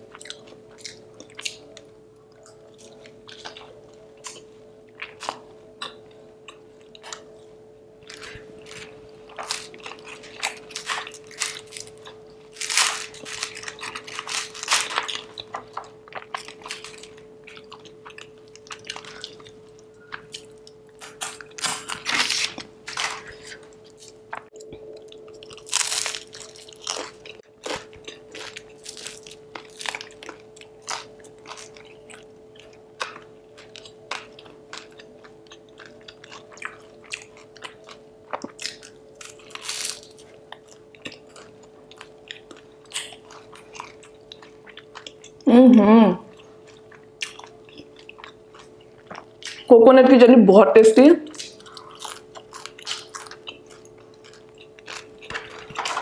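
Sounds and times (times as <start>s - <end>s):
chewing and crunching: 0.0s - 45.5s, 46.2s - 49.7s, 51.3s - 56.0s
faint steady hum: 0.0s - 56.0s.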